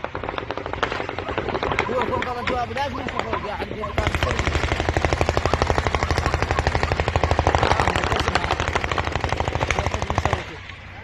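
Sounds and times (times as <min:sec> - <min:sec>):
automatic gunfire burst: 0:00.0 - 0:02.4, 0:04.0 - 0:10.6.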